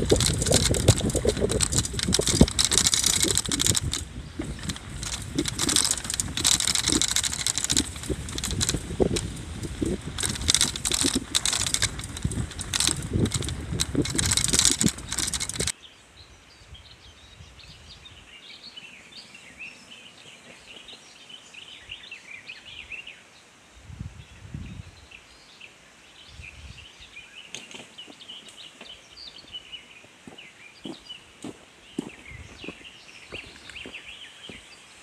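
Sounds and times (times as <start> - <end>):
small birds chirping: 0.0 - 23.5, 24.2 - 35.0.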